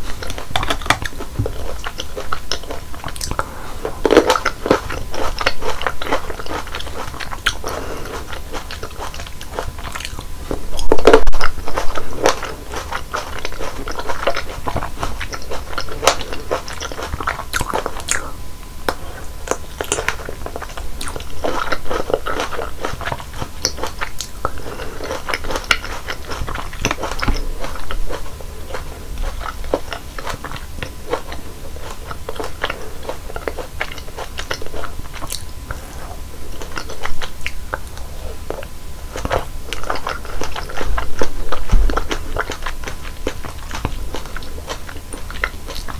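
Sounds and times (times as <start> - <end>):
biting and chewing juicy fruit: 0.0 - 45.9.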